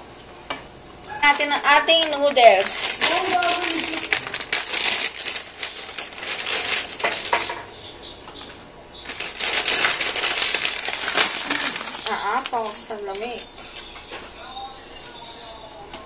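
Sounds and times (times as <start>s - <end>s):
plastic wrapper crinkling: 1.1s - 7.6s, 8.3s - 14.7s.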